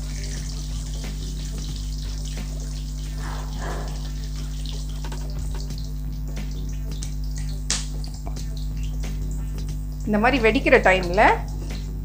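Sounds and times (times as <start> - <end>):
seeds sizzling in hot oil: 0.0 - 12.0
steady low hum: 0.0 - 12.0.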